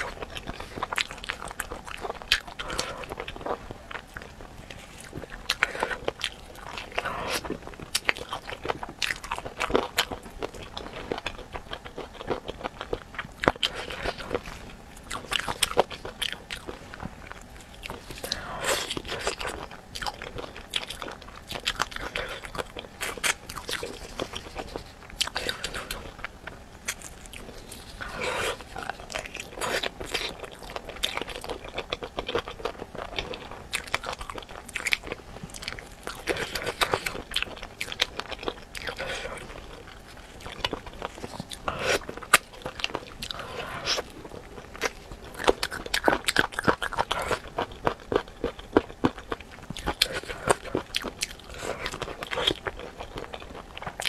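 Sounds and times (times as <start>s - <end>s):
crunchy chewing: 0.0s - 54.0s.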